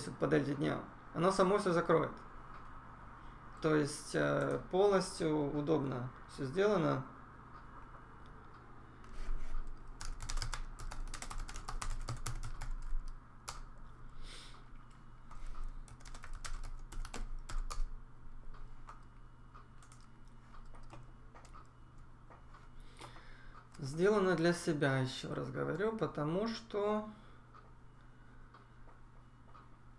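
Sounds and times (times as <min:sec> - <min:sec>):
faint low hum: 0:00.0 - 0:29.9.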